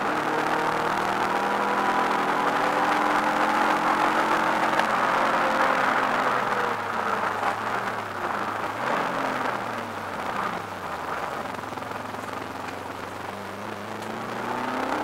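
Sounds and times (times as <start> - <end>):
car engine at racing speed: 0.0 - 15.0
road and wind noise: 0.0 - 15.0.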